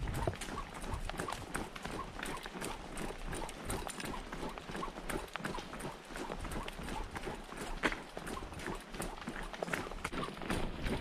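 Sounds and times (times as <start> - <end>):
jogging footsteps on road: 0.0 - 11.0.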